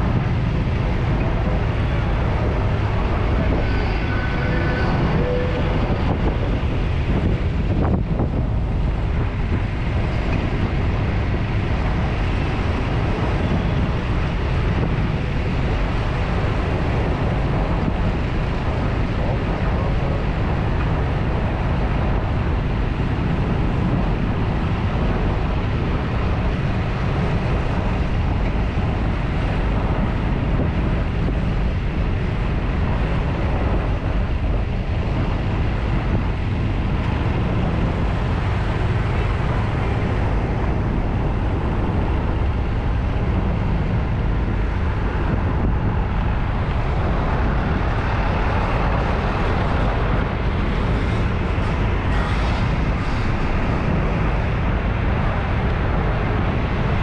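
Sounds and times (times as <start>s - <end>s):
motorcycle engine rumble: 0.0s - 57.0s
tyre and road noise: 0.0s - 57.0s
wind on microphone: 0.0s - 57.0s.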